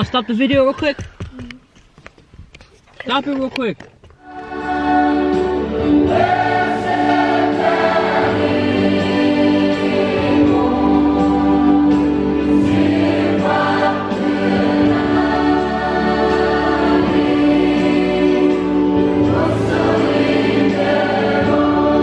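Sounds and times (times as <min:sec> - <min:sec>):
choir singing a hymn: 0:04.2 - 0:22.0.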